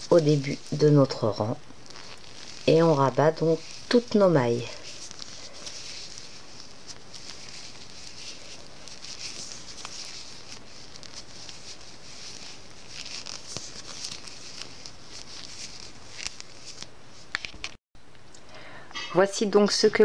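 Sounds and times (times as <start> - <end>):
yarn rustling: 0.0 - 17.6.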